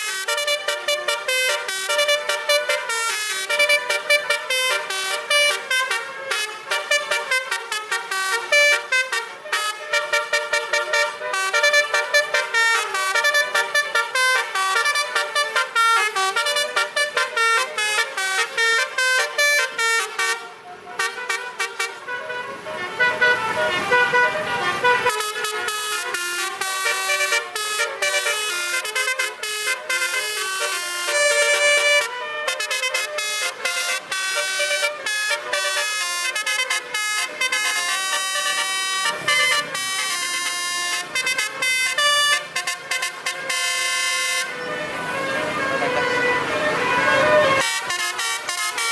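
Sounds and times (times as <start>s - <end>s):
musical air horn melody: 0.0s - 48.9s.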